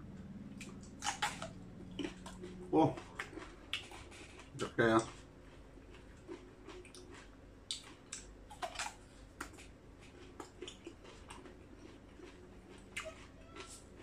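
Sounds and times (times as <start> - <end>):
faint steady hum: 0.0 - 14.0
man chewing crunchy vegetable: 0.3 - 14.0.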